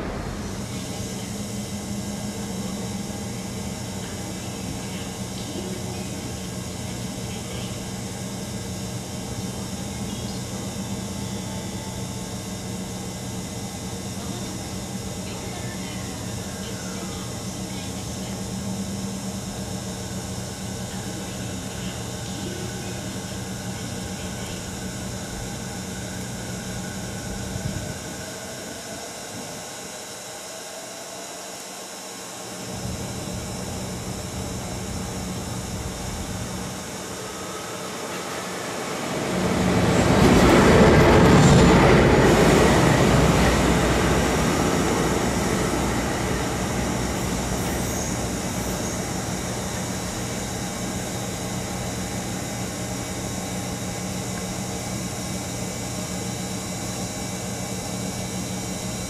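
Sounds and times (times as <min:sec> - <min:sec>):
diesel locomotive passing: 0:00.0 - 0:31.4, 0:32.0 - 0:56.4.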